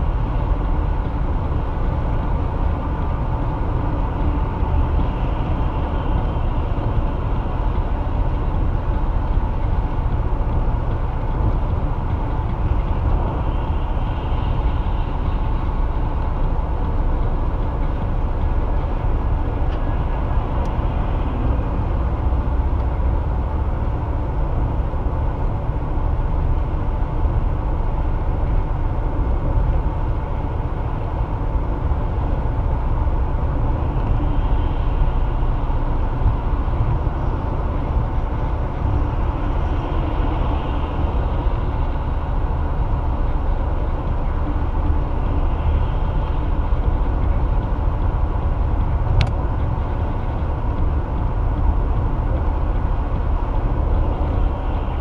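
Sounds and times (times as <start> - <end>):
car driving on highway: 0.0 - 55.0.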